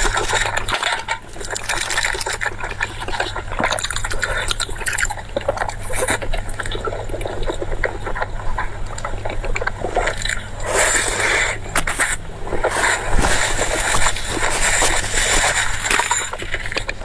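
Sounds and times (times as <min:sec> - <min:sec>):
wet chewing with mouth clicks: 0:00.0 - 0:17.0.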